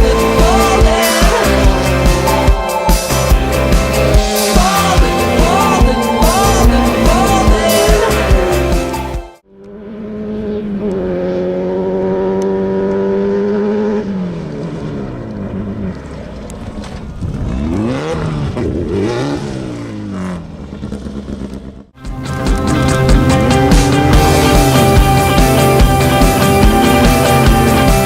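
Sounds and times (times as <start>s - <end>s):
race vehicle engine revving: 0.0s - 28.0s.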